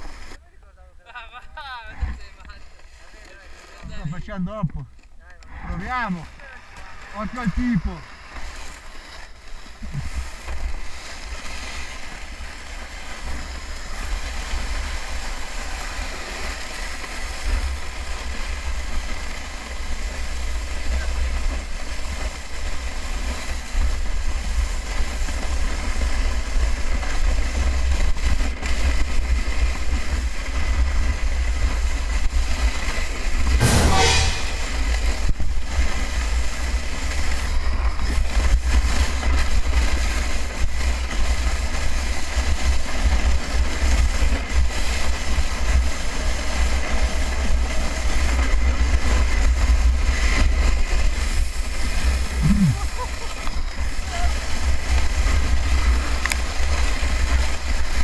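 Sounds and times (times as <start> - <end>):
sled scraping and rattling on ice: 0.0 - 0.4, 1.6 - 58.0.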